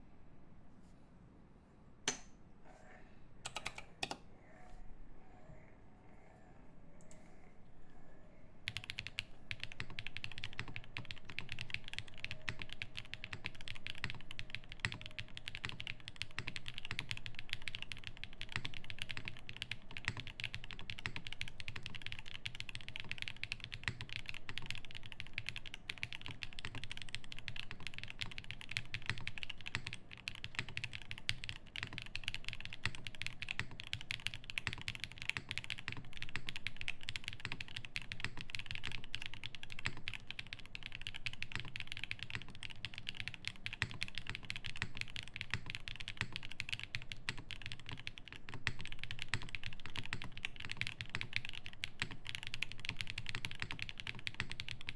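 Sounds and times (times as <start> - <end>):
fast mechanical keyboard typing: 3.4 - 4.2, 8.7 - 54.9.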